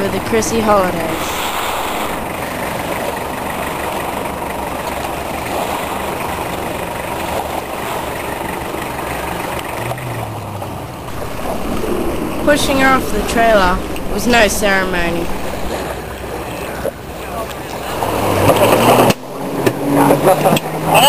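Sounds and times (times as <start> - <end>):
engine idling: 0.0 - 18.8
low hum: 0.0 - 20.8.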